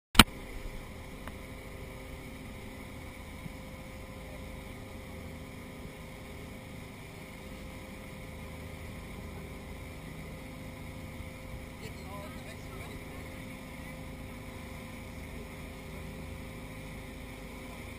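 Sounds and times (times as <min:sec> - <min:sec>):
boat motor humming: 0:00.2 - 0:17.9
constant hiss: 0:00.2 - 0:17.9.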